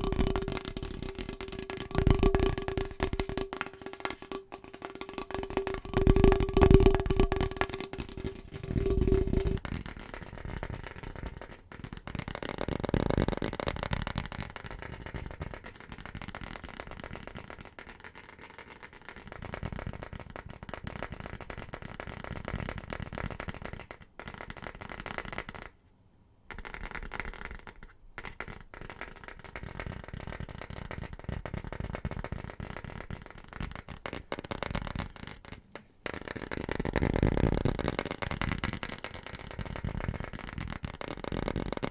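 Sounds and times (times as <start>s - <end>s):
fast tapping on household objects: 0.0s - 25.7s, 26.5s - 41.9s.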